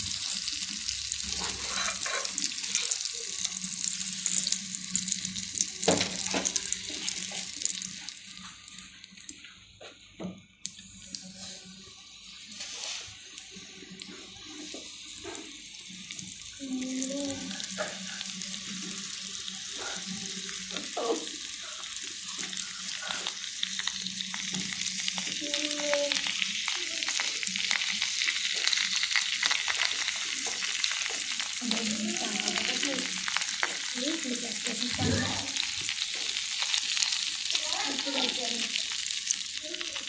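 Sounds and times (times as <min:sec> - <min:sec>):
onion rings deep-frying in oil: 0:00.0 - 0:40.0.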